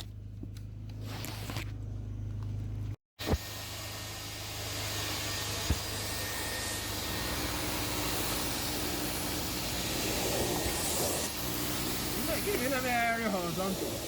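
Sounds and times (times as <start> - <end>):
vacuum motor running: 0.0 - 14.0.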